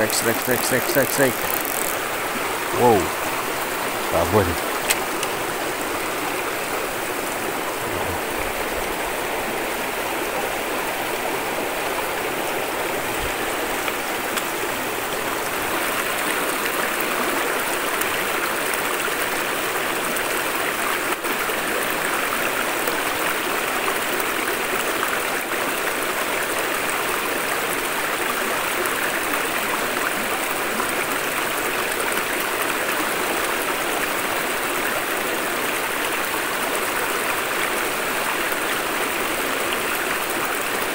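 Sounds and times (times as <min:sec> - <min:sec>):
river water rushing over stones: 0:00.0 - 0:40.9.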